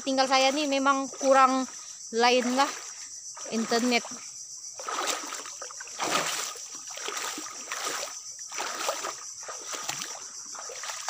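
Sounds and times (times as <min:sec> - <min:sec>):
footsteps splashing through mud: 0:00.2 - 0:04.2, 0:04.8 - 0:11.0.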